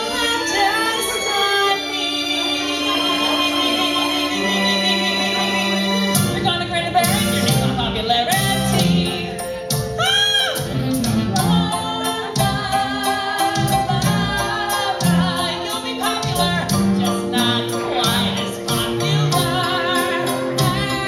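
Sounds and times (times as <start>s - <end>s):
musical accompaniment with steady beat: 0.0s - 21.0s
woman singing into a microphone: 0.0s - 21.0s.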